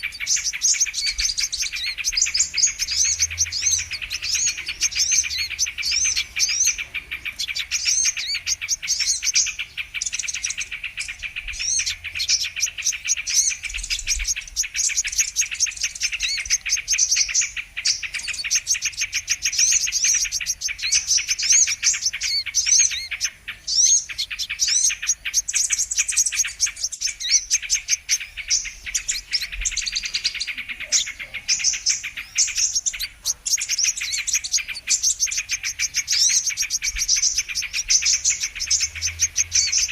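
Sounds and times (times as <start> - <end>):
sunbirds chirping and trilling: 0.0 - 39.9.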